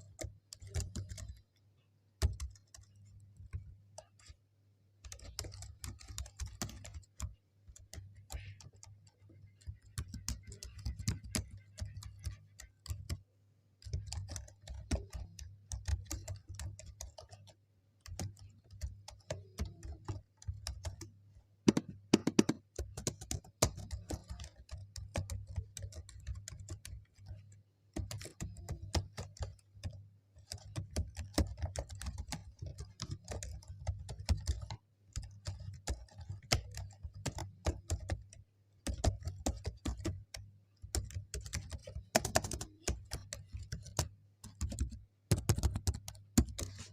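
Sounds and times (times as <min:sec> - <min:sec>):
typing on keyboard: 0:00.0 - 0:01.6, 0:02.2 - 0:04.4, 0:05.0 - 0:46.9.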